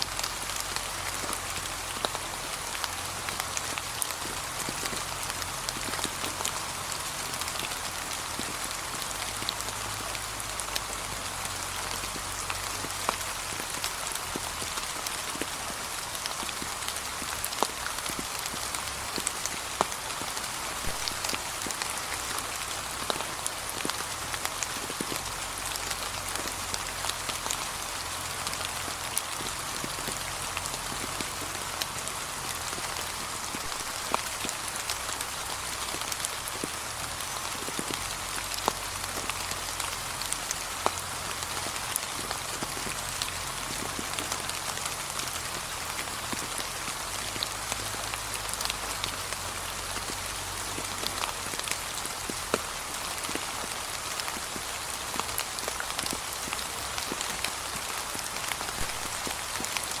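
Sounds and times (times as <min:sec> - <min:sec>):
rain pattering on leaves: 0:00.0 - 1:00.0.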